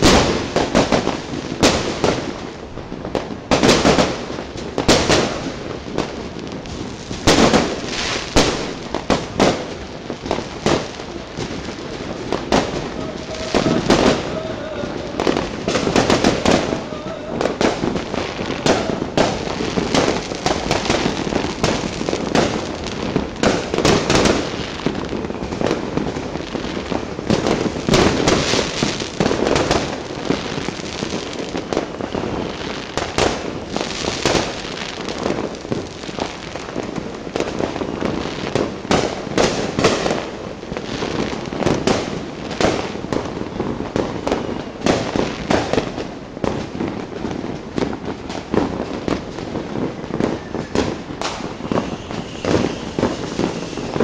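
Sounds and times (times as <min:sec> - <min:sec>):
fireworks and firecrackers banging: 0:00.0 - 0:54.0.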